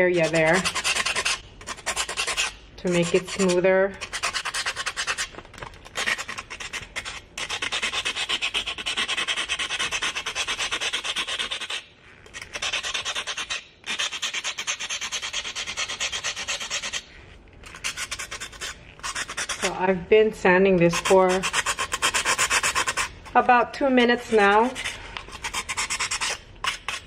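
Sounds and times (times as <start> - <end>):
sandpaper rubbing on glass rim: 0.0 - 19.8, 20.9 - 23.2, 24.1 - 27.0.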